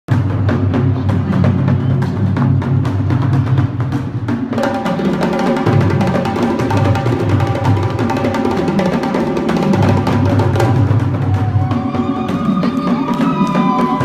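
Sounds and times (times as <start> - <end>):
drums beating fast rhythm: 0.1 - 14.0.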